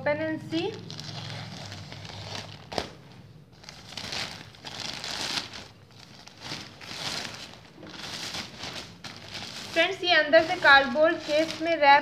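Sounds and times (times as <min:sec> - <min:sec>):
plastic bag crinkling: 0:00.5 - 0:12.0.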